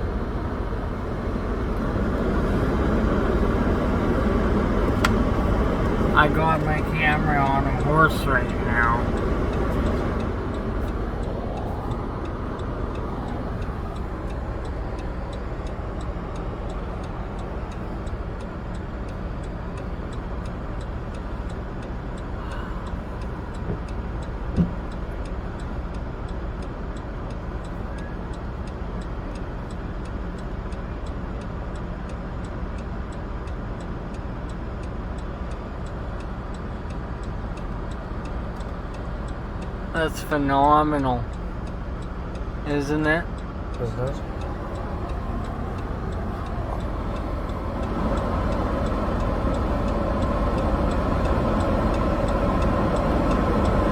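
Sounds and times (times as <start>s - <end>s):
car engine idling: 0.0s - 53.9s
faint rapid ticking: 0.1s - 53.9s.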